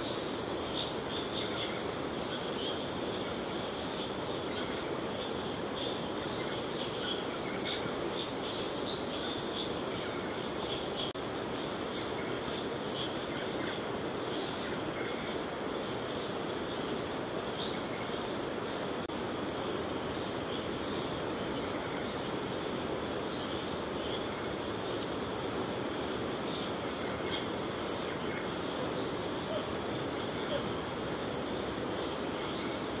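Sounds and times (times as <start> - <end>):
insects pulsing chirp: 0.0 - 33.0
insects trilling: 0.0 - 33.0
low background hiss: 0.0 - 33.0.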